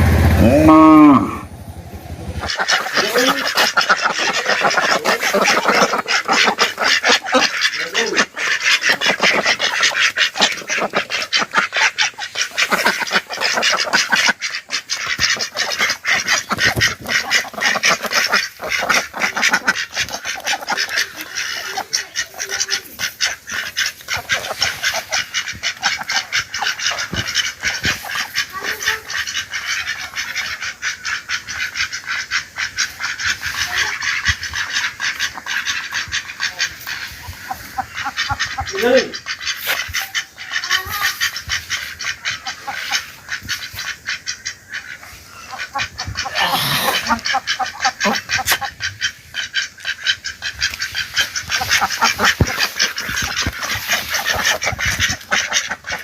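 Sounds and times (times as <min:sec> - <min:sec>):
flock of birds calling: 0:00.0 - 0:56.0.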